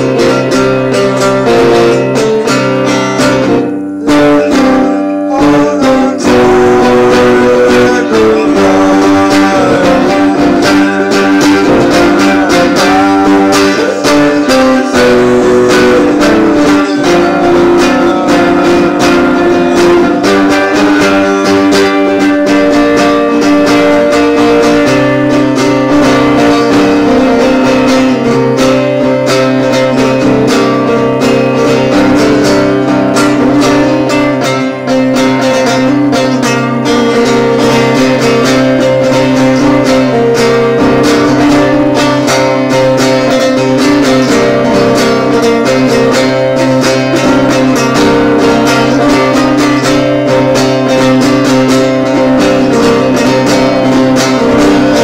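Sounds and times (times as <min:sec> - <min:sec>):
solo electric guitar: 0:00.0 - 0:55.0.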